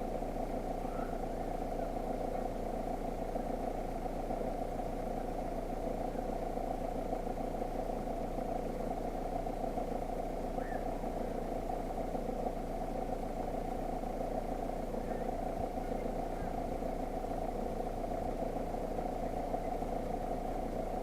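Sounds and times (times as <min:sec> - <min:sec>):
steady engine hum: 0:00.0 - 0:21.0.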